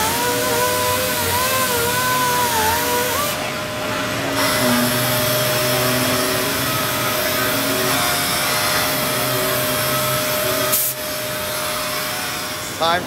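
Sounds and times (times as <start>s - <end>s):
orbital sander whirring: 0.0s - 13.0s.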